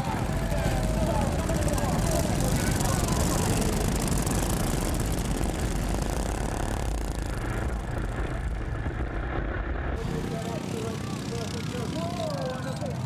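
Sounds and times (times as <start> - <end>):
rushing noise: 0.0 - 11.6
small petrol engines droning: 0.0 - 13.0.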